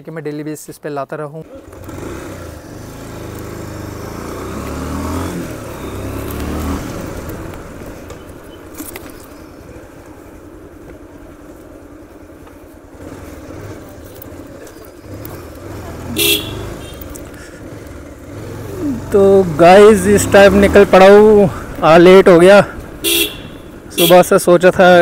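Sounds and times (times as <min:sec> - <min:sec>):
motorcycle engine revving: 0:01.4 - 0:10.8, 0:11.4 - 0:24.1.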